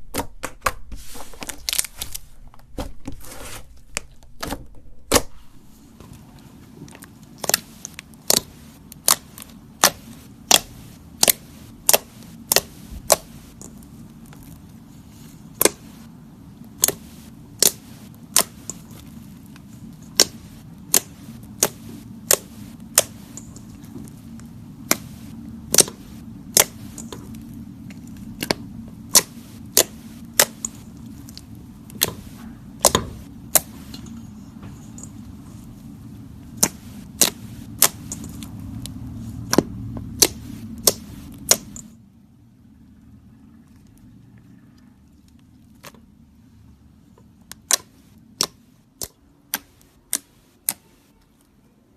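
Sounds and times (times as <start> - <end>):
low steady hum: 0.0 - 51.9.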